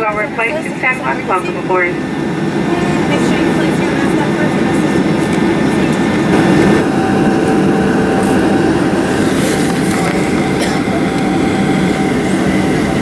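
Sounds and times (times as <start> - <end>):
aircraft rolling rumble: 0.0 - 13.0
jet engines whining: 0.0 - 13.0.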